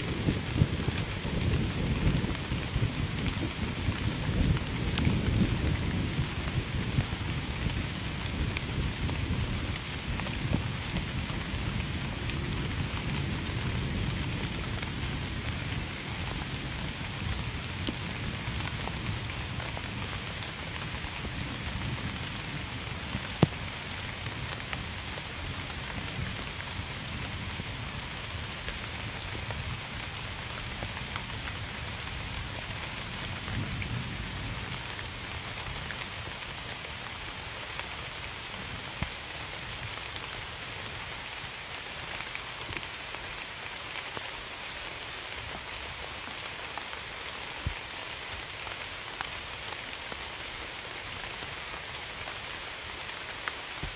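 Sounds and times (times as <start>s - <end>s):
rain falling on a surface: 0.0s - 53.9s.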